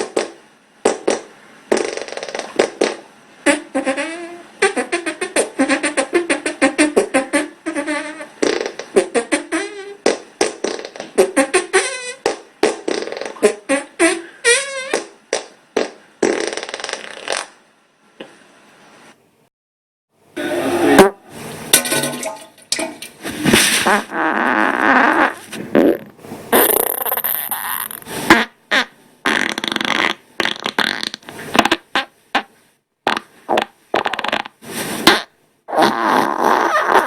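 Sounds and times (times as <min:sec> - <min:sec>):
farts: 0:00.0 - 0:17.6, 0:20.4 - 0:37.0.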